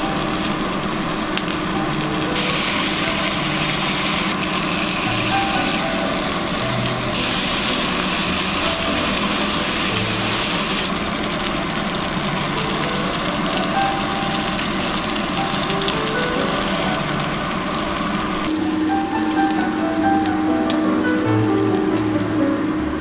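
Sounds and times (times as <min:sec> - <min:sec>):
steak sizzling in skillet: 0:00.0 - 0:22.6.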